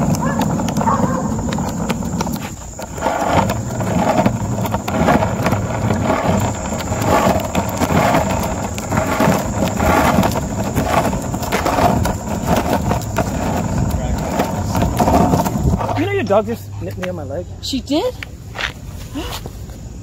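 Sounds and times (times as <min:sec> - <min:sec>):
skateboard wheels rolling on pavement: 0:00.0 - 0:20.0.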